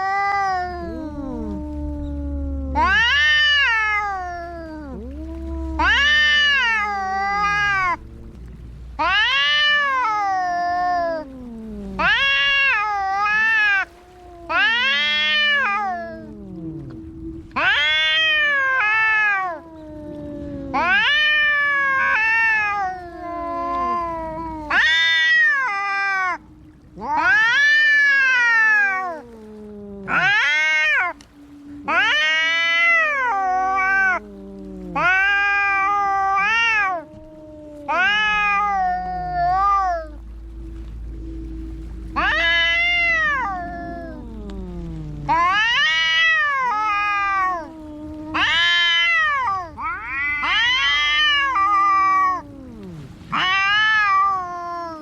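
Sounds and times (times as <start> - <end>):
cat low moan: 0.0 - 55.0
cats yowling: 0.0 - 55.0.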